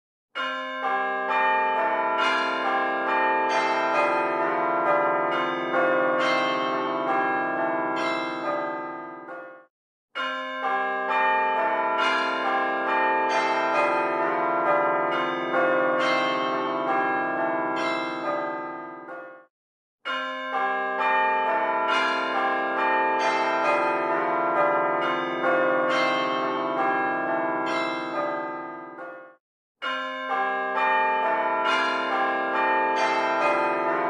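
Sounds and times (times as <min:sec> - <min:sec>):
bells ringing a melody: 0:00.4 - 0:09.6, 0:10.2 - 0:19.5, 0:20.1 - 0:34.0.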